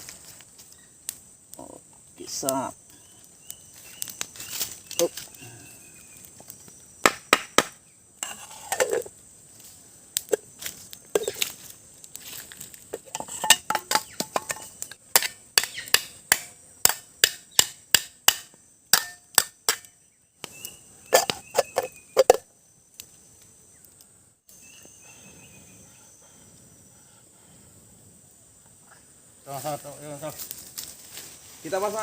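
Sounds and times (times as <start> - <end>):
high insect drone: 0.0 - 32.0.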